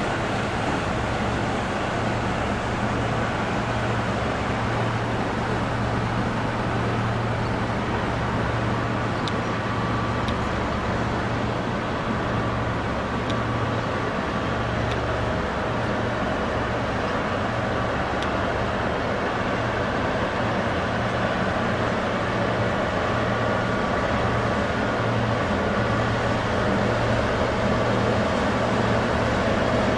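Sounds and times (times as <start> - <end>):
barge engine drone: 0.0 - 29.9
rush of boat wash: 0.0 - 29.9.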